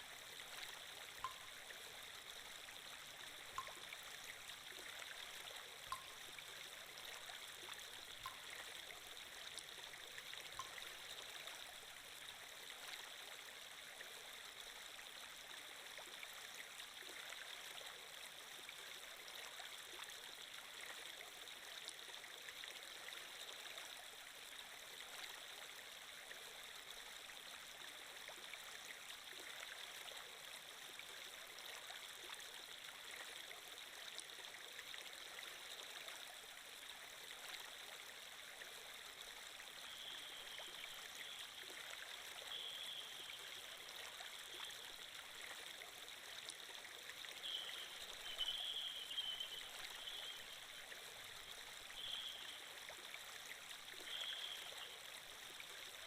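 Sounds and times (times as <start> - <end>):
faint running stream water: 0.0 - 56.0.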